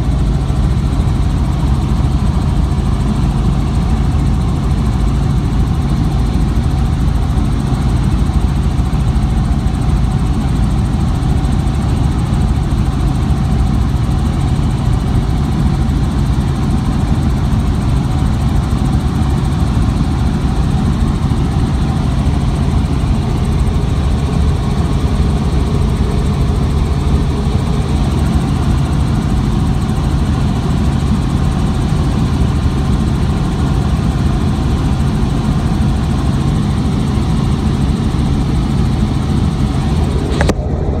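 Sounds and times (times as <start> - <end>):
aircraft engine hum: 0.0 - 41.0.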